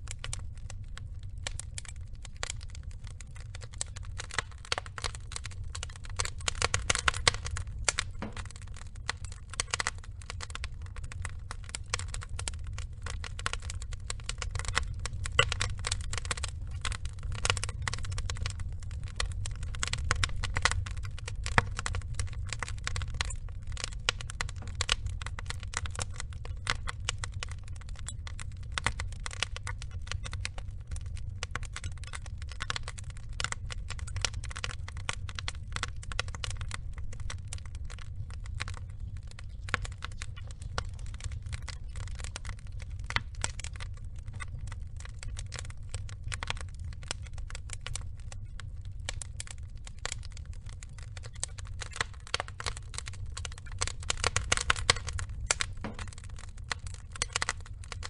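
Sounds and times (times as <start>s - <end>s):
low rumble of fire: 0.0s - 58.0s
wood fire crackling: 0.0s - 58.0s.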